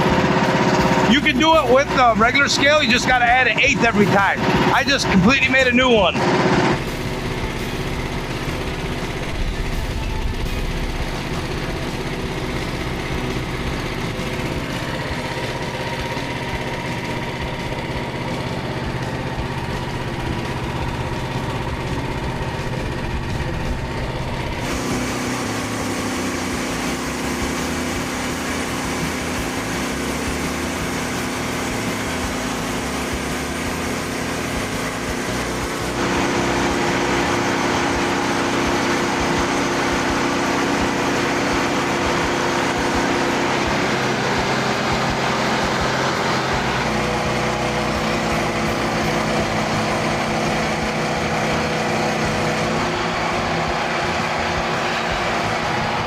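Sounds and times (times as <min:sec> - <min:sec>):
sawmill engine drone: 0:00.0 - 0:56.0.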